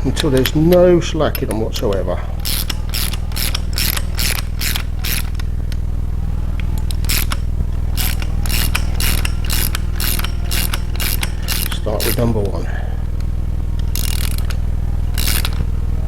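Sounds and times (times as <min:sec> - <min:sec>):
ratchet wrench clicking: 0:00.0 - 0:05.8, 0:06.6 - 0:15.7.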